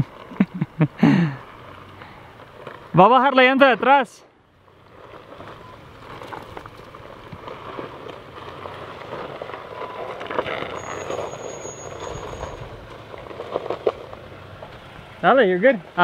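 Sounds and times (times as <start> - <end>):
tyres crunching over gravel: 0.0 - 16.0.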